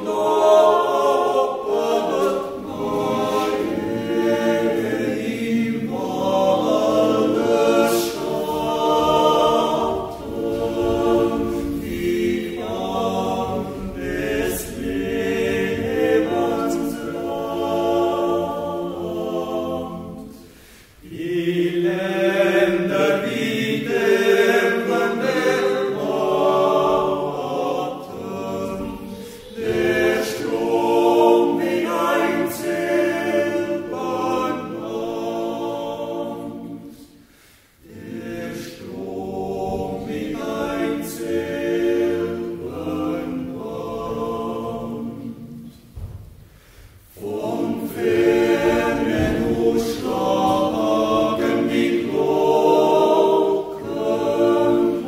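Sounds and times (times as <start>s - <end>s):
choir yodeling a cappella: 0.0s - 46.1s, 47.0s - 55.0s.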